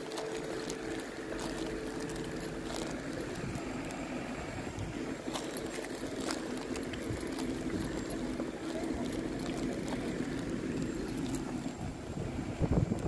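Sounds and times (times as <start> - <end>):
diesel train engine humming: 0.0 - 13.0.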